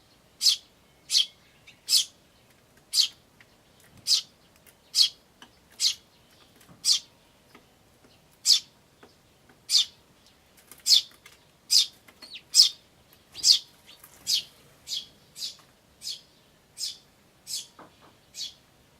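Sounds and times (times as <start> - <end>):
sparrows chirping: 0.0 - 18.9.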